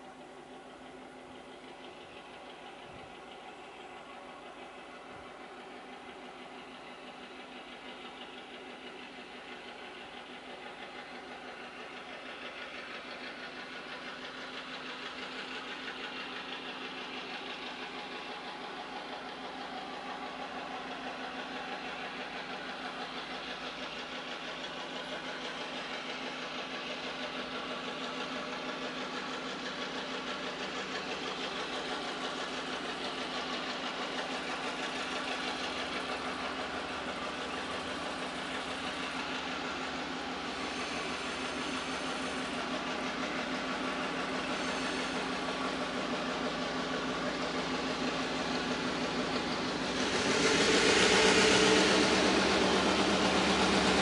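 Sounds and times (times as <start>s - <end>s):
diesel locomotive engine droning: 0.0s - 54.0s.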